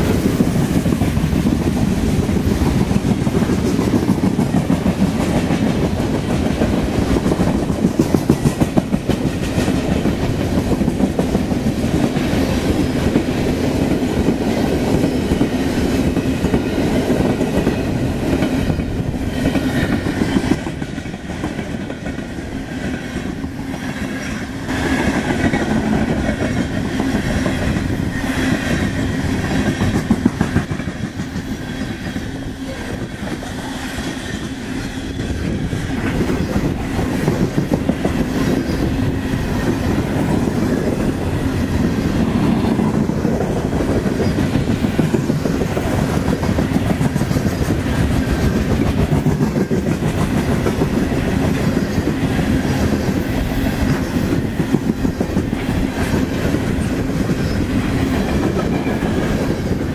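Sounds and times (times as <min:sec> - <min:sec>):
freight train rumbling past: 0:00.0 - 0:59.9
wheels clacking on rails: 0:00.0 - 0:59.9.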